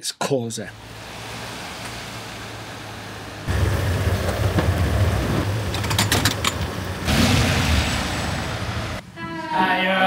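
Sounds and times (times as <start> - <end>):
vehicle engine rumbling: 0.6 - 9.2
street traffic: 0.6 - 9.9.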